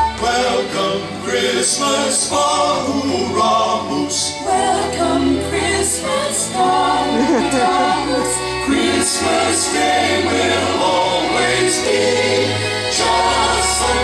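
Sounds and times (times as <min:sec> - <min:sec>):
music with choir singing: 0:00.0 - 0:14.0.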